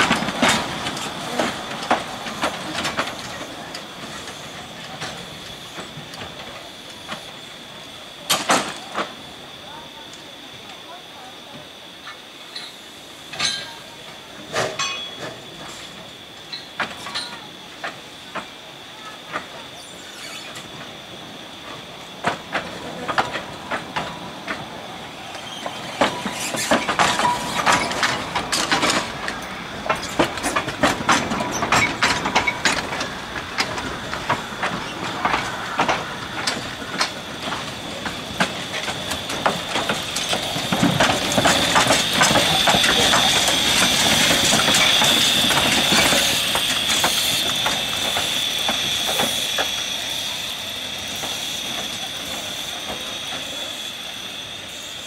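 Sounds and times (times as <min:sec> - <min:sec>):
train wheels clanking on track: 0:00.0 - 0:55.0.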